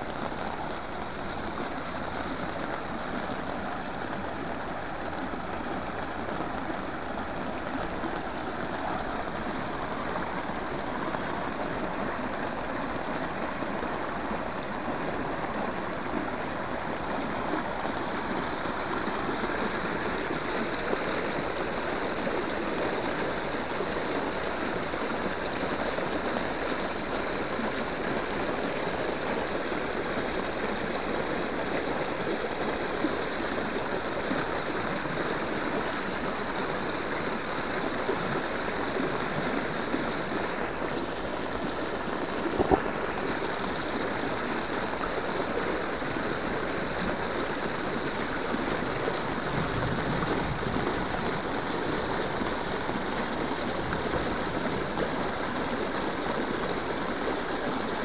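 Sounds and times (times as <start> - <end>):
heavy rain on standing water: 0.0 - 58.0
water rushing down concrete channel: 0.0 - 58.0.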